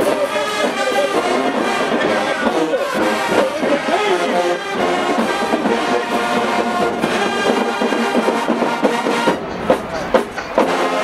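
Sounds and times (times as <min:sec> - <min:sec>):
marching band brass playing: 0:00.0 - 0:11.0.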